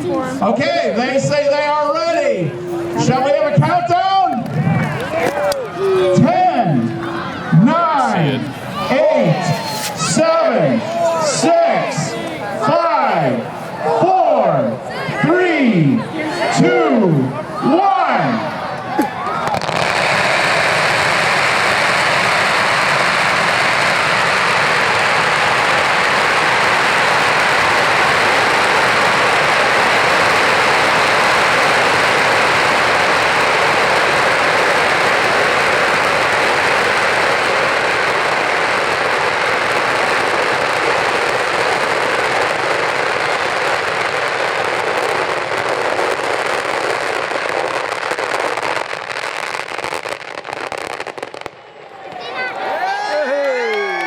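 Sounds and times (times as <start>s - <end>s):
firecrackers going off: 0.0s - 13.9s, 14.8s - 54.0s.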